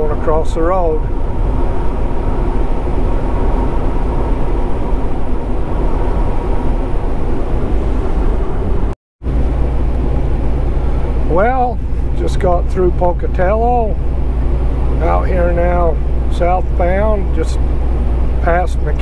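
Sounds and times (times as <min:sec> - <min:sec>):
truck engine drone: 0:00.0 - 0:19.0.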